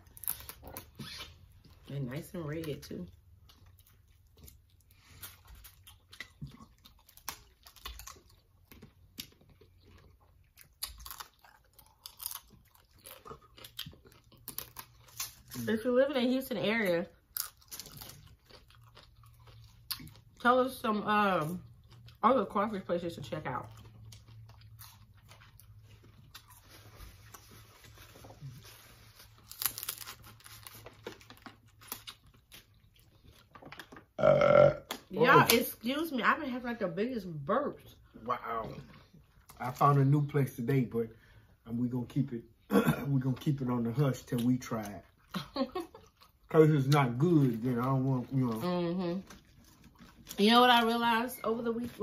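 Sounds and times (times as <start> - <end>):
chewing and mouth sounds: 0.0 - 15.6, 16.8 - 35.7, 37.8 - 40.3, 43.2 - 51.0.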